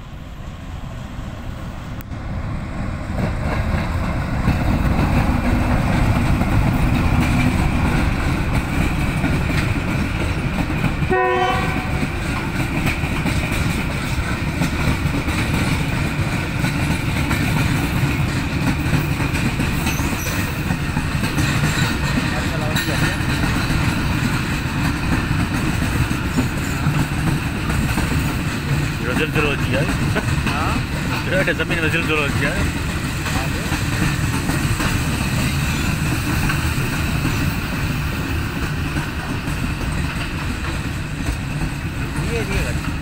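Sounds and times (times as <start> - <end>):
diesel locomotive and wagons rumbling: 0.0 - 43.0.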